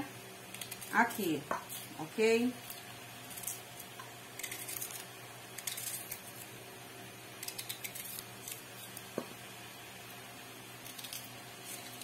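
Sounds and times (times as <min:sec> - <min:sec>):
onion layers crackling: 0:00.0 - 0:06.6, 0:07.3 - 0:09.2, 0:10.7 - 0:12.0
low steady hum: 0:00.0 - 0:12.0.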